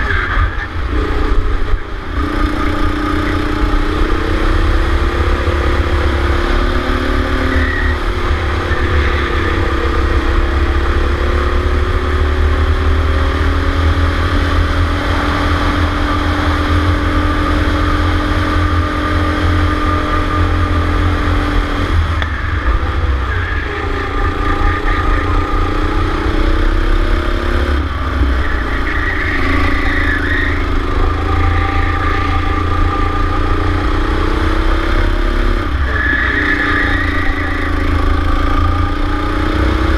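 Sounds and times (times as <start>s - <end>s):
heavy low rumble: 0.0s - 36.0s
go-kart engine: 0.0s - 39.9s.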